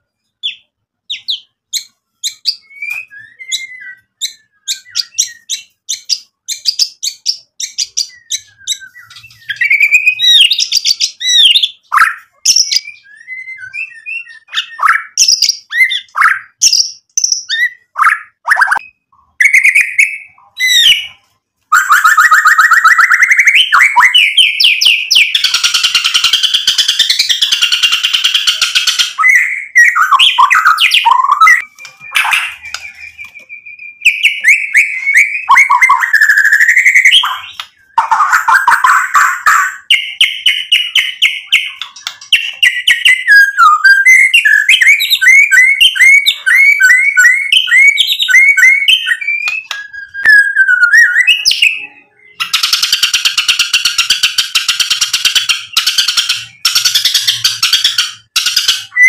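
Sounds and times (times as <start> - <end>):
bird singing varied whistles: 0.4 - 59.0.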